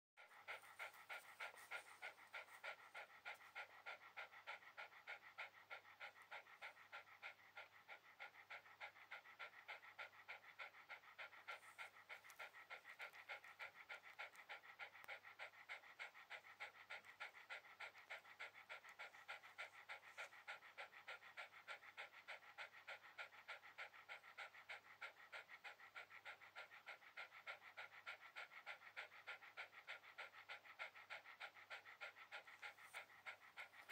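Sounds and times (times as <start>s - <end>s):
dog panting: 0.2s - 33.9s.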